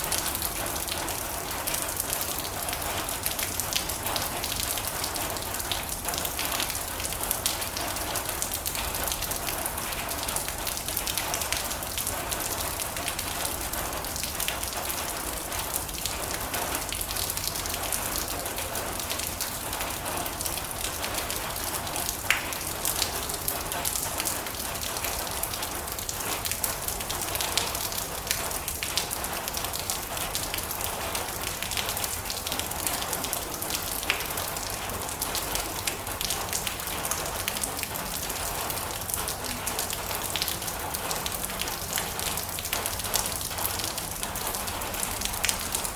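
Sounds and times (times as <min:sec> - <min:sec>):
rain on a metal roof: 0:00.0 - 0:45.9.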